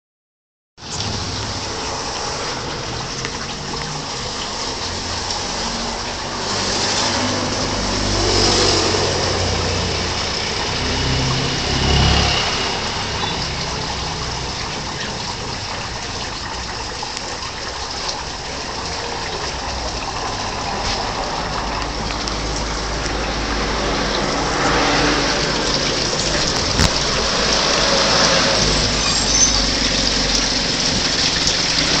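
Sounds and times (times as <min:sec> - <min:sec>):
water splashing into pond: 0:00.8 - 0:32.0.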